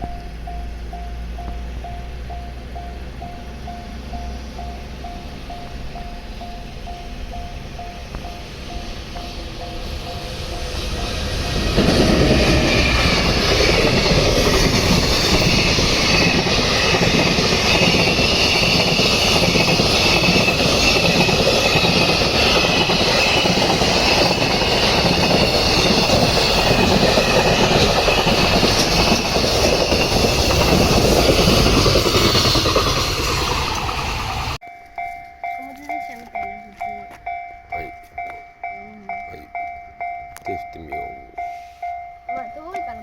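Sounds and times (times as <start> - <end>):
thin high whine: 0.0 - 38.5
train wheels on rails: 0.0 - 43.0.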